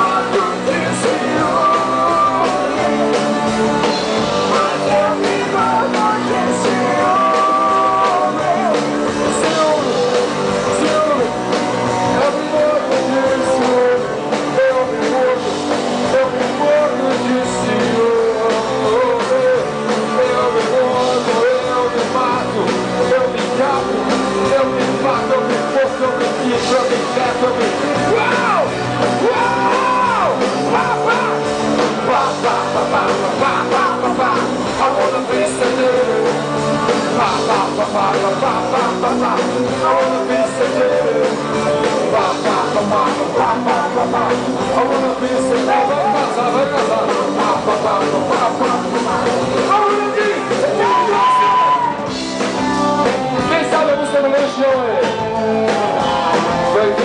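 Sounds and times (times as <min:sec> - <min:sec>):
man singing into microphone: 0:00.0 - 0:52.2, 0:53.4 - 0:57.0
live rock band playing: 0:00.0 - 0:57.0.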